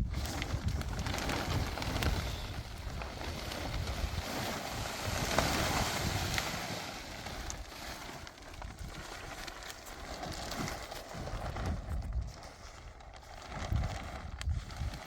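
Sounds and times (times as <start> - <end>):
wind blowing over microphone: 0.0 - 9.5, 11.2 - 15.0.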